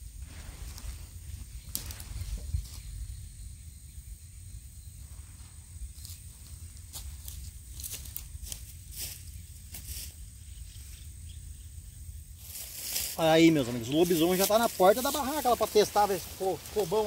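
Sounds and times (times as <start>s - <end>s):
high-pitched insect drone: 1.6s - 17.0s.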